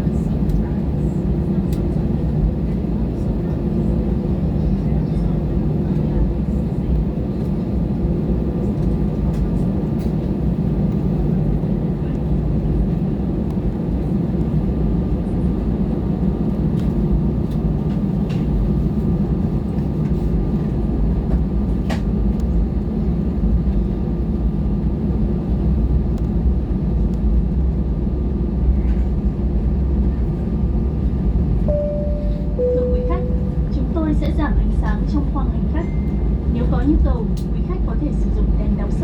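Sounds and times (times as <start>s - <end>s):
aircraft cabin rumbling drone: 0.0s - 39.0s.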